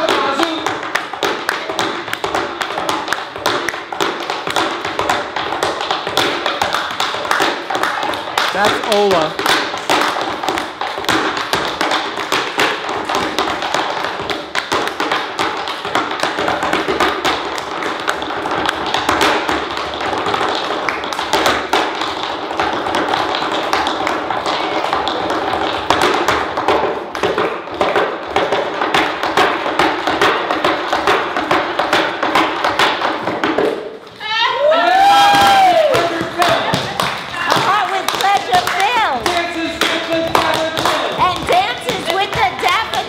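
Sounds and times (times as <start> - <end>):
hands clapping: 0.0 - 34.0, 34.6 - 43.0
tap shoes on wooden board: 0.0 - 34.4, 35.0 - 43.0.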